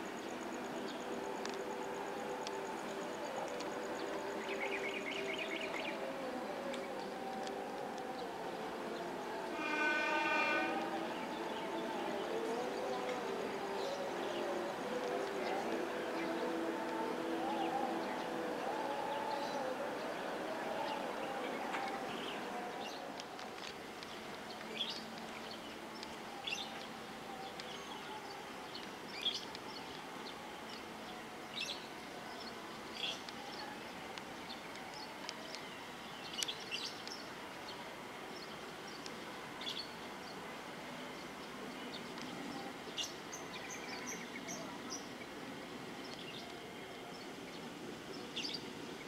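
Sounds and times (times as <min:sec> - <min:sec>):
birds chirping: 0:00.0 - 0:40.5
faint steady background noise: 0:00.0 - 0:49.0.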